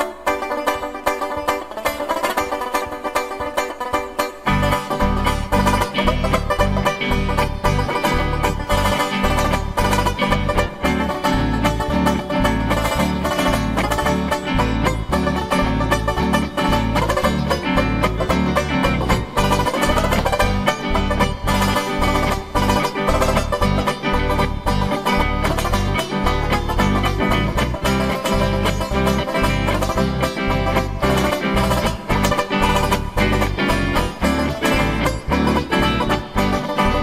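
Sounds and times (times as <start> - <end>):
banjo picking: 0.0 - 37.0
stepping bass line: 0.0 - 37.0.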